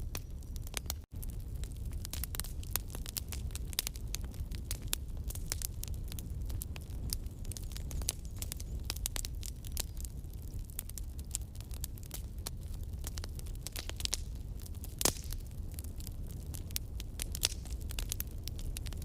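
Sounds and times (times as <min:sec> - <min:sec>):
campfire crackling: 0:00.0 - 0:19.0
low rumble of flame: 0:00.0 - 0:19.0
sharp pops of fire: 0:00.0 - 0:19.0.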